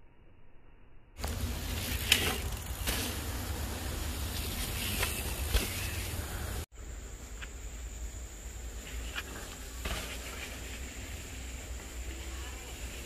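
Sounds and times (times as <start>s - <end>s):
road and traffic noise: 1.2s - 13.0s.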